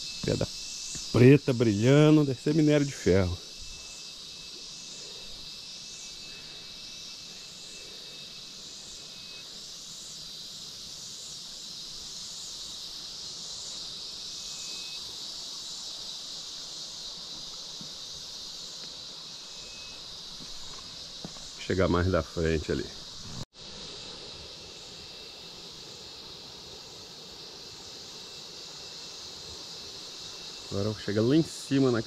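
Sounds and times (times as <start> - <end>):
insects chirring: 0.0 - 32.0
thin insect whistle: 0.0 - 32.0.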